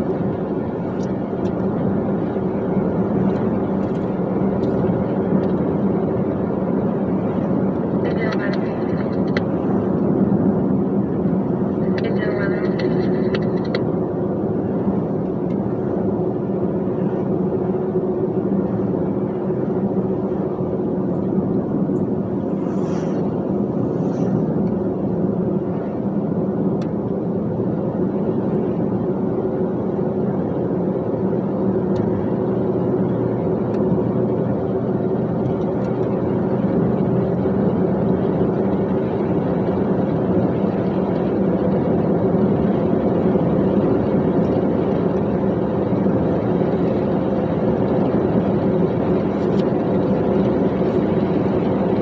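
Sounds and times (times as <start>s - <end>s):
truck engine and road noise: 0.0s - 52.0s.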